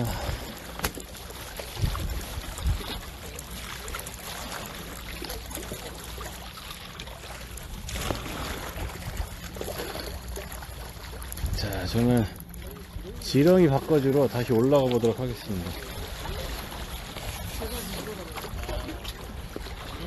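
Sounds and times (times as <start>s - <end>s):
sea water washing: 0.0s - 20.0s
wind: 0.0s - 20.0s.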